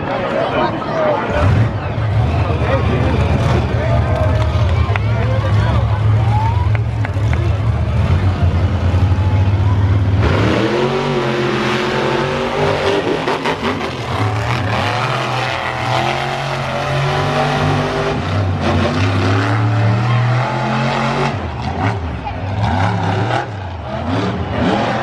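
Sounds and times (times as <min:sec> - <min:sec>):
monster truck engines revving: 0:00.0 - 0:25.0.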